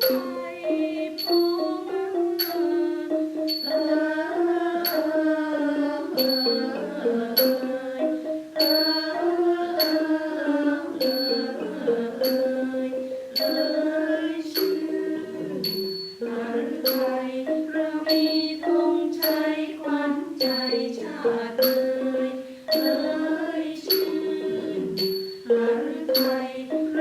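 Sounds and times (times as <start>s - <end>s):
hand cymbal strikes ringing: 0.0s - 27.0s
traditional ensemble slow melody: 0.0s - 27.0s.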